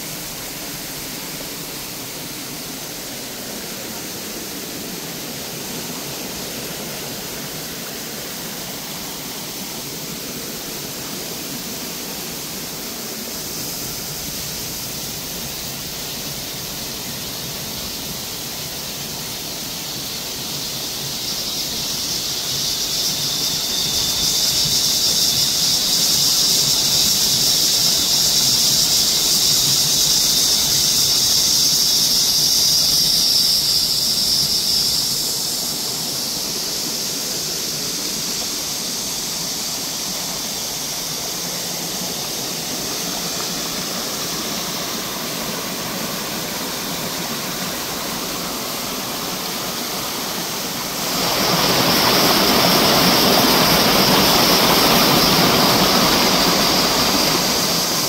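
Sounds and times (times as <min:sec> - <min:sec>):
cicadas droning: 0:00.0 - 0:58.0
stream rushing: 0:00.0 - 0:58.0.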